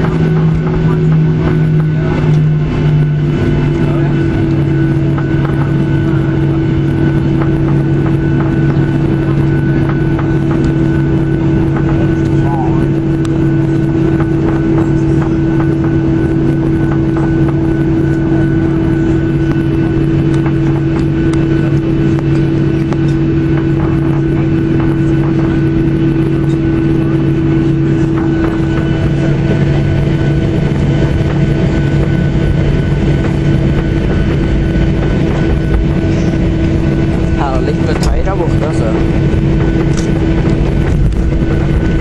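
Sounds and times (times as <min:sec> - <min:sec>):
high engine whine: 0:00.0 - 0:42.0
jet engines idling hum: 0:00.0 - 0:42.0
wheels rumbling on taxiway: 0:00.0 - 0:42.0.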